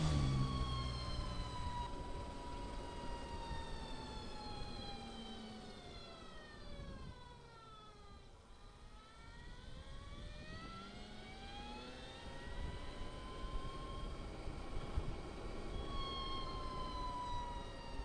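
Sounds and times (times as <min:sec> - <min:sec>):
electric motorcycle motor whine: 0:00.0 - 0:07.2, 0:08.2 - 0:18.0
road and wind noise: 0:00.0 - 0:18.0.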